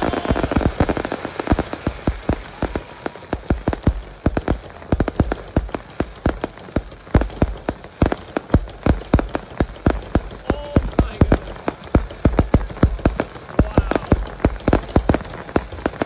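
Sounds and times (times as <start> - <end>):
fireworks cracking and popping: 0.0 - 16.0.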